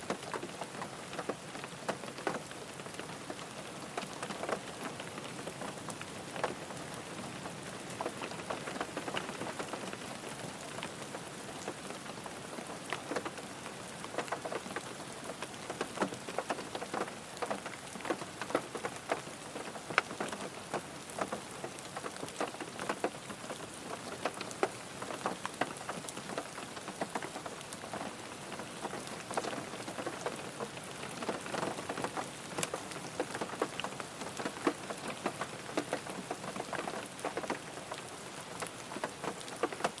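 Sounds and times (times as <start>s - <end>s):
rain falling on a car: 0.0s - 40.0s.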